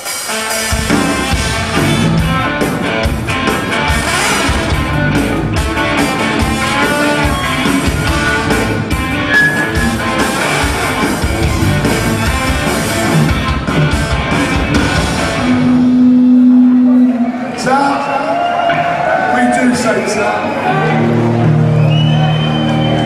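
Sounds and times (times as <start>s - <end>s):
live punk band playing: 0.0s - 23.0s.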